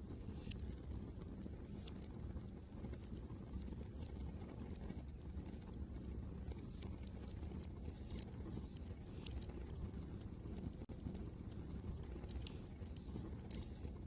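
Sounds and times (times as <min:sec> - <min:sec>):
fire pops and snaps: 0:00.0 - 0:14.0
wood fire crackling: 0:00.0 - 0:14.0.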